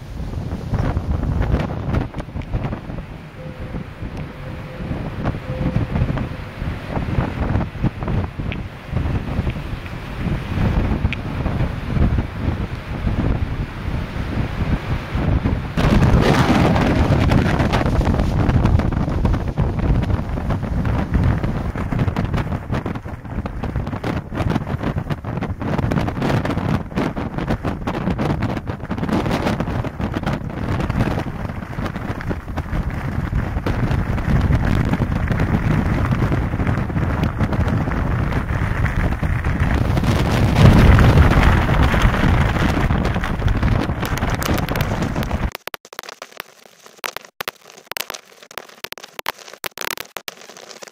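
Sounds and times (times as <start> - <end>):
strong wind buffeting microphone: 0.0 - 45.5.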